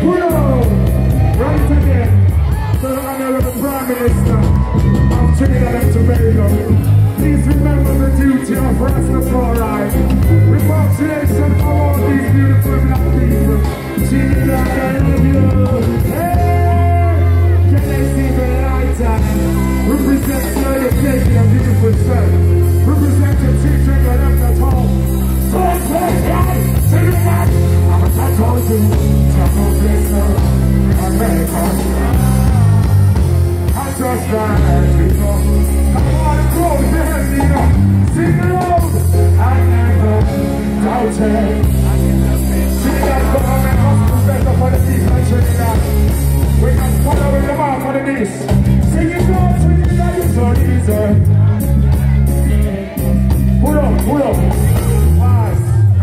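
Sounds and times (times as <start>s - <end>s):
heavy bass line: 0.0s - 56.0s
live reggae band: 0.0s - 56.0s
man singing: 0.0s - 56.0s.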